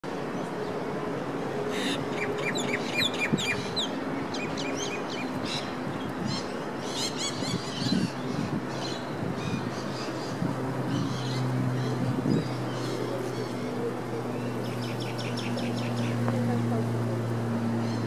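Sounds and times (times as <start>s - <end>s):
low hum of city ambience: 0.0s - 18.0s
small birds chirping: 1.8s - 17.0s.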